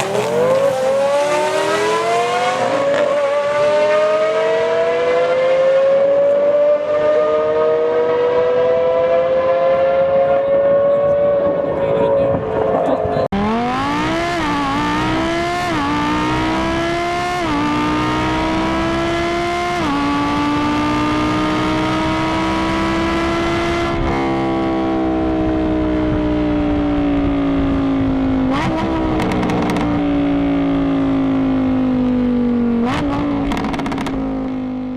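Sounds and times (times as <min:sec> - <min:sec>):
sports car engine accelerating: 0:00.0 - 0:34.9.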